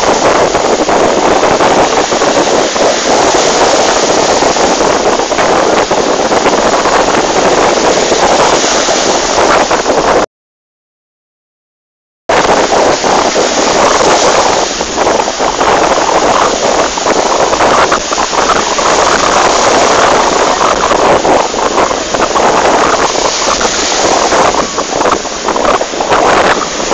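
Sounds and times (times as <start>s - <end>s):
waves breaking on a sandy shore: 0.0s - 10.2s, 12.3s - 26.9s
wind buffeting microphone: 0.0s - 10.2s, 12.3s - 26.9s.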